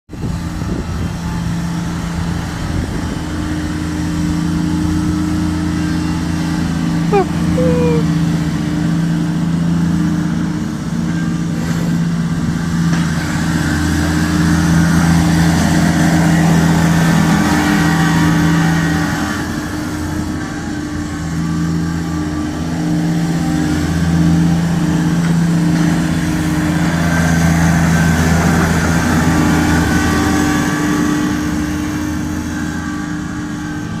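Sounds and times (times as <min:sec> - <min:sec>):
tractor diesel engine running: 0:00.1 - 0:34.0.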